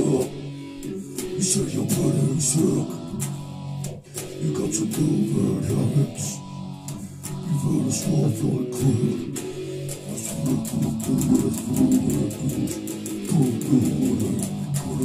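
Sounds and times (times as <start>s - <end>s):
electric guitar strumming riff: 0.0s - 15.0s.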